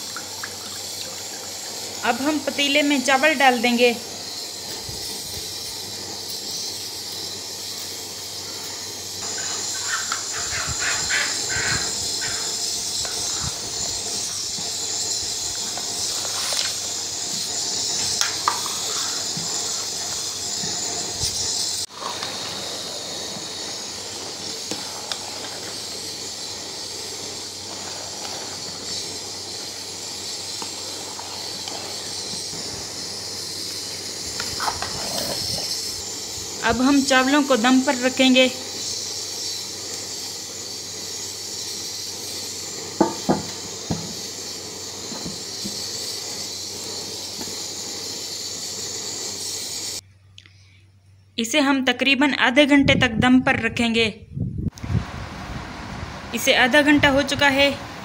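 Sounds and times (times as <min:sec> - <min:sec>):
pot boiling with steady hiss: 0:00.0 - 0:54.0, 0:54.6 - 0:58.0.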